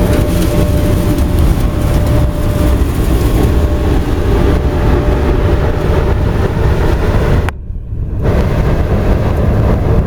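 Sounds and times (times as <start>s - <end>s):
burner flame and blower rushing: 0.0s - 10.0s.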